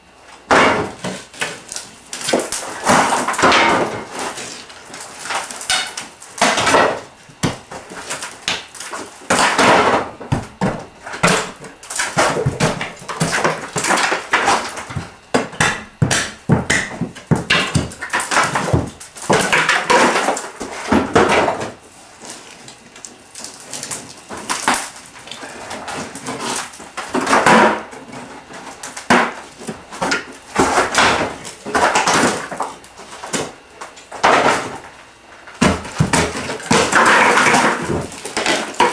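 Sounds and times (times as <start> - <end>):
plaster crunching and falling: 0.4 - 38.9.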